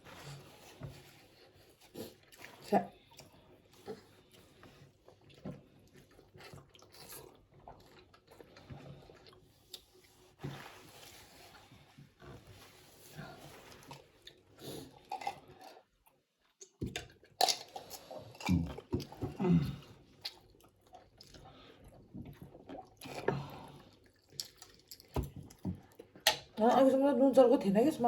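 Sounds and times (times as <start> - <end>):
noodles chewed and slurped: 0.0 - 26.6.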